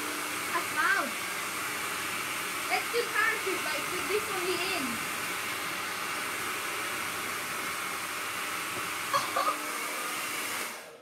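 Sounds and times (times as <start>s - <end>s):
hairdryer blowing: 0.0s - 11.0s.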